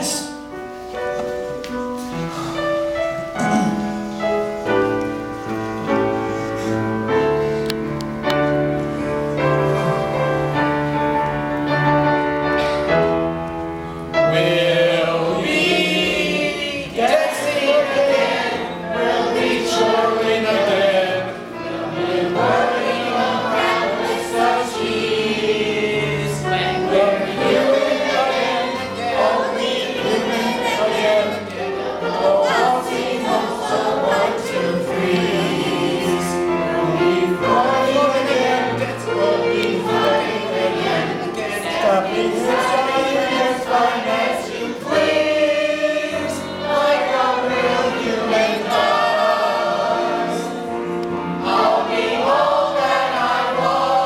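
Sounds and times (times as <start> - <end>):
chorus singing: 0.0 - 54.0.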